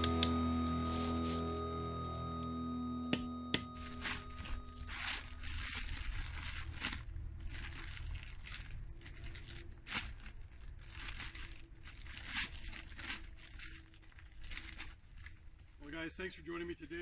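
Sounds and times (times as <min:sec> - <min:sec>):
plastic tarp crinkling: 0:00.0 - 0:02.4, 0:03.8 - 0:16.4.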